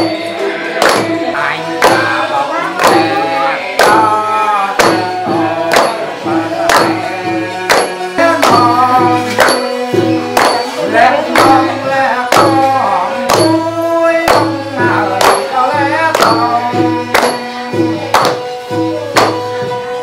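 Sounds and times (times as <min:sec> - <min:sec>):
steady drumbeat: 0:00.0 - 0:20.0.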